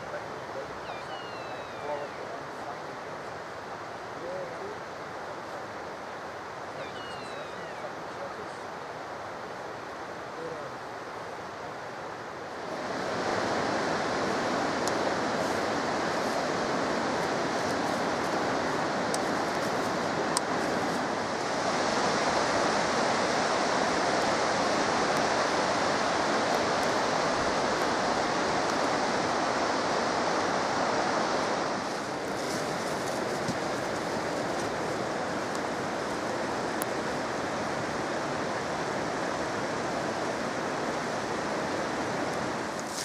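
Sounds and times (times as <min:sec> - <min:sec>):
rushing river water: 0:00.0 - 0:43.0.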